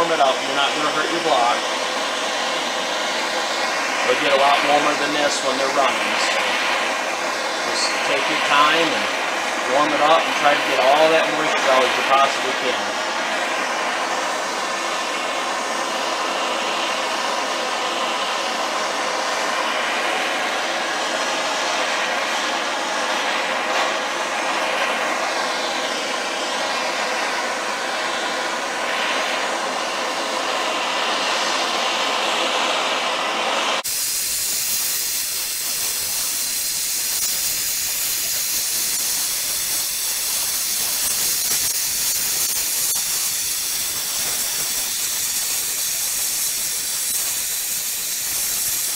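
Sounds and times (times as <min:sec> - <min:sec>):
gas torch hissing: 0:00.0 - 0:48.9.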